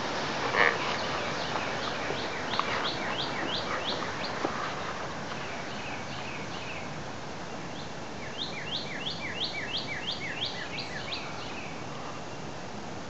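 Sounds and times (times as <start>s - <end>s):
songbird singing: 0.0s - 12.8s
outdoor hiss: 0.0s - 13.0s.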